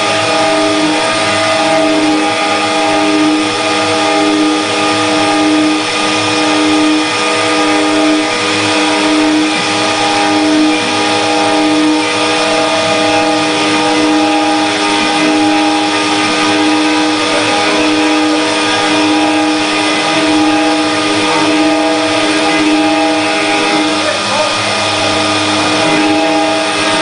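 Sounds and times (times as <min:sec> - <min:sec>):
machine hiss: 0:00.0 - 0:27.0
router spindle motor hum: 0:00.0 - 0:27.0.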